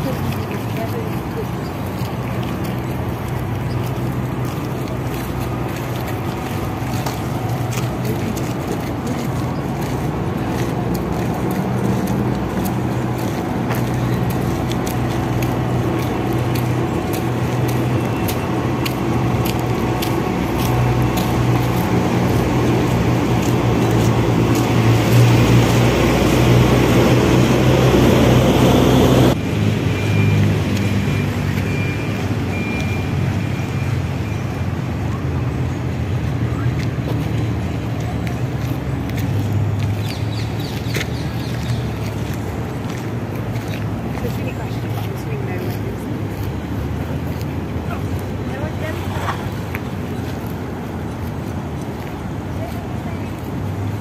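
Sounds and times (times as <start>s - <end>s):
tyre and road noise: 0.0s - 54.0s
vehicle engines humming: 0.0s - 54.0s.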